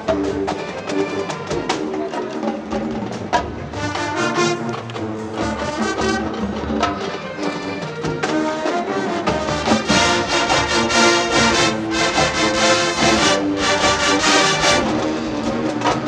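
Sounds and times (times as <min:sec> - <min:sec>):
drumline percussion: 0:00.0 - 0:16.0
marching band brass: 0:00.0 - 0:16.0.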